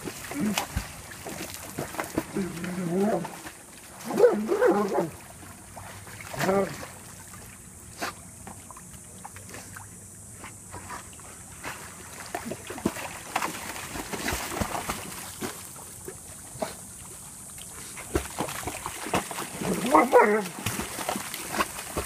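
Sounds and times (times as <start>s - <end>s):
dog splashing in water: 0.0s - 9.9s, 10.6s - 17.0s, 17.6s - 22.0s.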